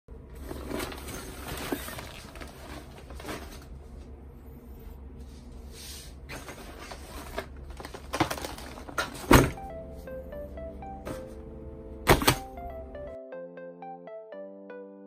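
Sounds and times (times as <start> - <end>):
steady low hum: 0.1 - 13.2.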